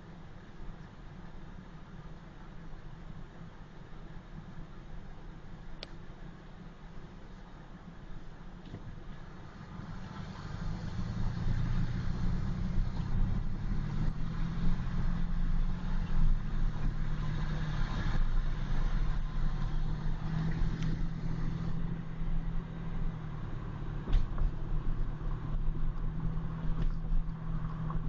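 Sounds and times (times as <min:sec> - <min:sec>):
car engine: 0:00.0 - 0:28.0
road noise: 0:00.0 - 0:28.0.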